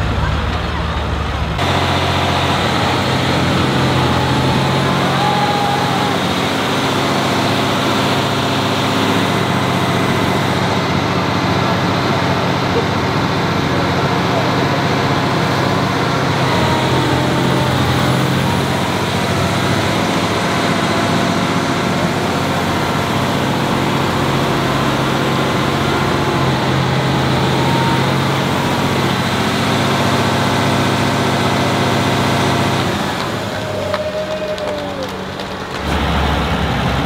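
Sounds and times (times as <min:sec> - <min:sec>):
tractor diesel engines running hard: 0:00.0 - 0:37.0.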